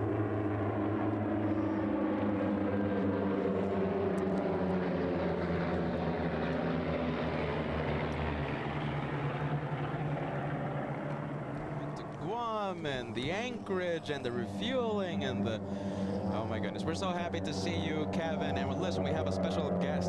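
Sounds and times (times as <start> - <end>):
small propeller planes droning: 0.0 - 20.0.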